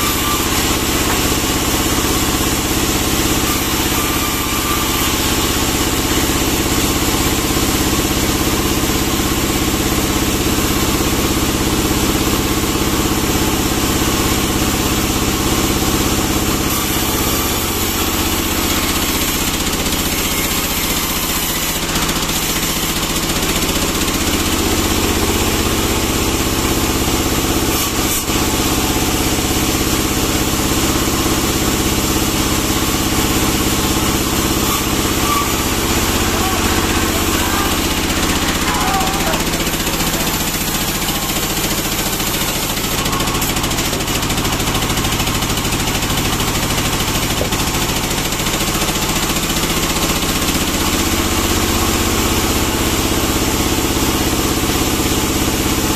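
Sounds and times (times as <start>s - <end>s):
band sawmill running: 0.0s - 55.9s.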